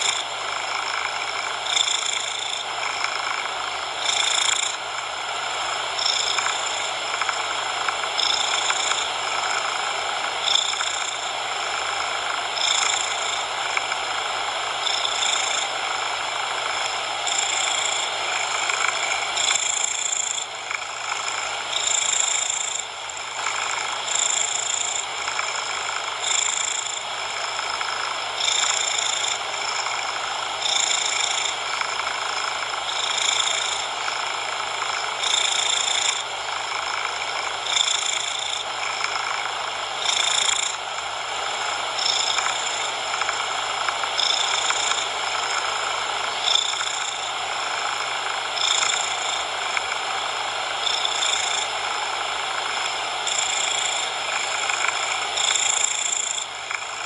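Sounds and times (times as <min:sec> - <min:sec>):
cat purring: 0:00.0 - 0:57.0
steady noise: 0:00.0 - 0:57.0.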